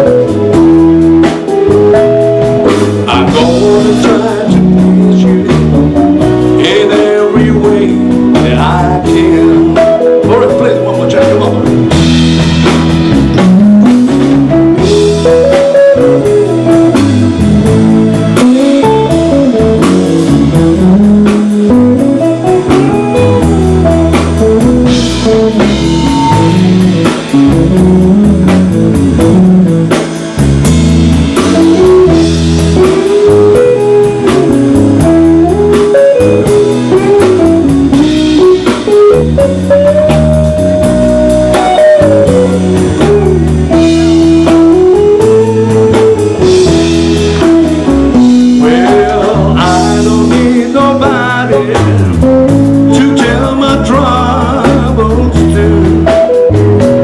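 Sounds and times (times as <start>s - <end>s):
blues band playing: 0.0s - 57.0s
lead guitar bending notes: 0.0s - 57.0s.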